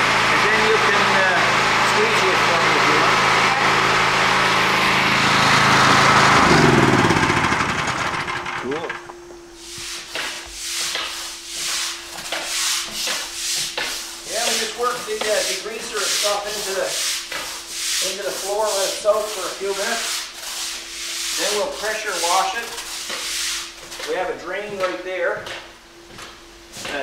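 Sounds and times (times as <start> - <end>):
push broom scrubbing concrete floor: 0.0 - 27.0.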